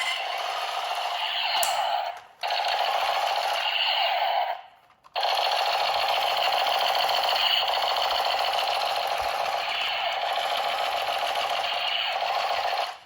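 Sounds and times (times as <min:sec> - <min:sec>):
toy machine gun rapid-fire effect: 0:00.0 - 0:13.0.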